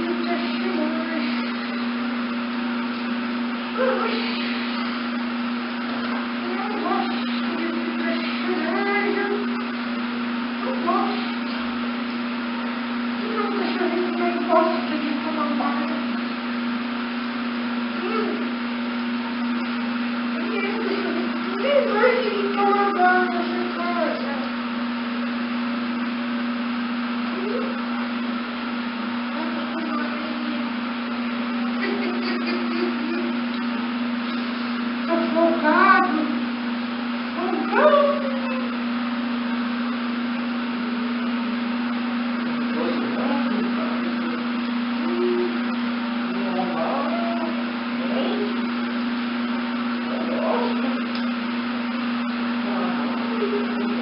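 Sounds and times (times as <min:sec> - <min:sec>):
mechanical hum: 0:00.0 - 0:54.0.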